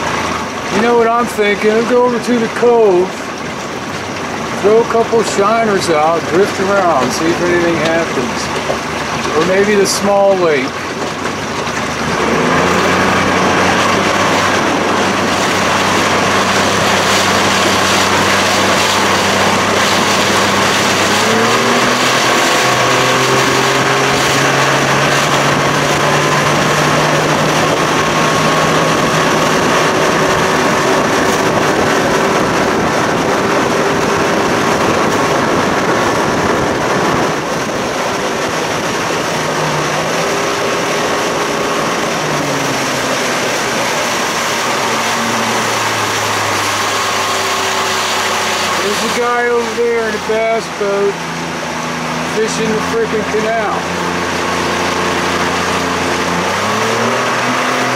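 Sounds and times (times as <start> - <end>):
outboard motor running: 0.0 - 57.9
water noise: 0.0 - 57.9
wind noise: 5.2 - 57.9.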